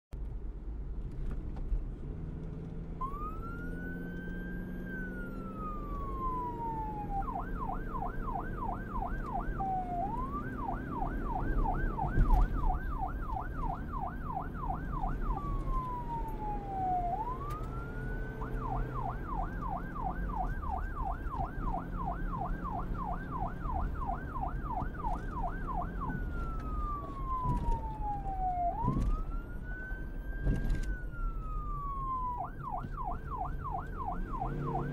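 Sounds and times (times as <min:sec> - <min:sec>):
car engine and tyres rumble: 0:00.1 - 0:34.9
police siren wailing and yelping: 0:03.0 - 0:34.9.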